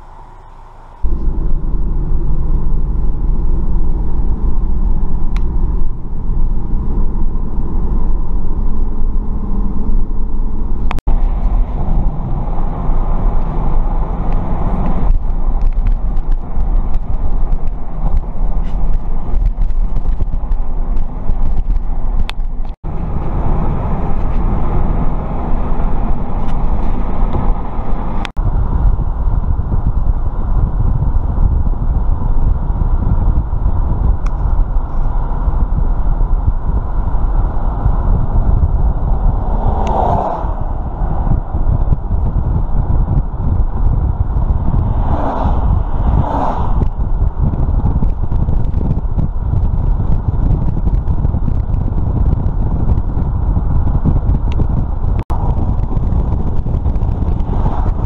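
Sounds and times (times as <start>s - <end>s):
car road and wind noise: 0.0s - 58.0s.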